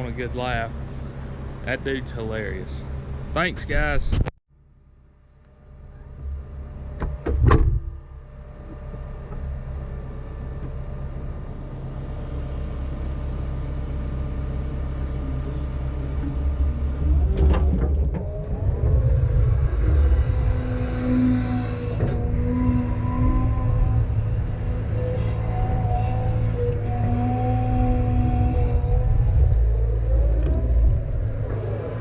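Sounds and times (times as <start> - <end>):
heavy diesel engine running: 0.0 - 4.0, 5.0 - 32.0.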